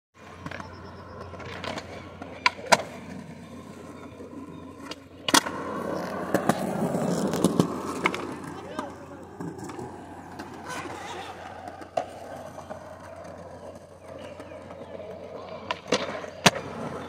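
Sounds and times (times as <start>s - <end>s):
skateboard clacking on ground: 0.2s - 17.0s
skateboard wheels rolling: 0.2s - 17.0s.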